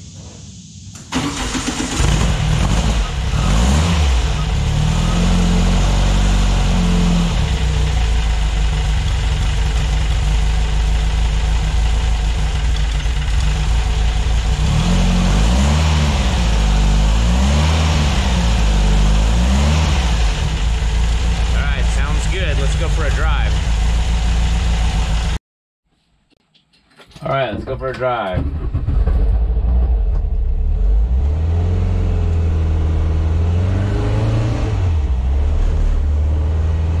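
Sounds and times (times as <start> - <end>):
car engine starting and revving: 1.0 - 25.4, 28.4 - 37.0.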